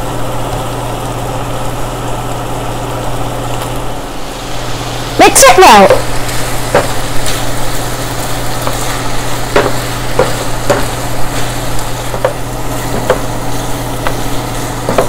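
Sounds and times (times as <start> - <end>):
chicken sizzling in a frying pan: 0.0 - 15.0.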